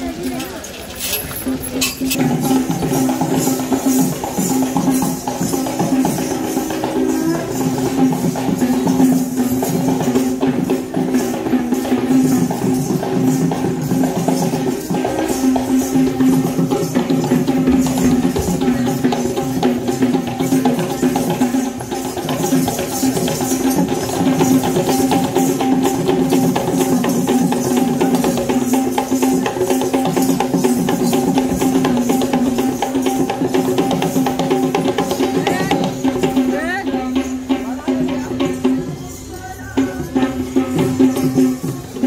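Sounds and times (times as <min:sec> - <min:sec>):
hand drums fast rhythm: 0:01.7 - 0:42.0.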